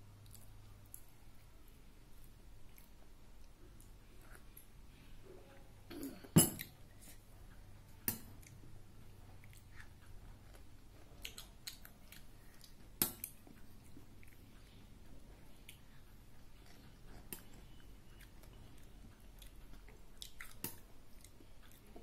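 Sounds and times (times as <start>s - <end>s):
soft chewing: 0.0s - 22.0s.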